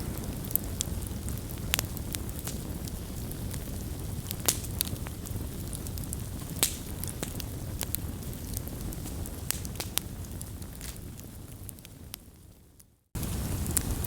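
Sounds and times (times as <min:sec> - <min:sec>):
campfire crackling and popping: 0:00.0 - 0:12.5, 0:13.2 - 0:14.0.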